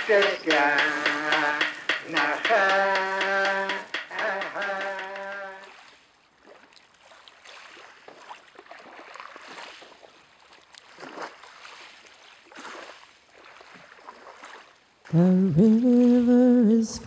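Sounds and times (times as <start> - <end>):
kayak paddle splashing: 0.0 - 15.0
gentle water lapping: 0.0 - 16.6.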